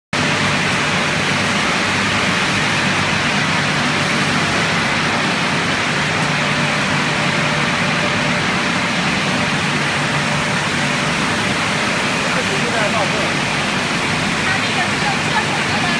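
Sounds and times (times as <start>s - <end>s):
extrusion machine running: 0.2s - 15.9s.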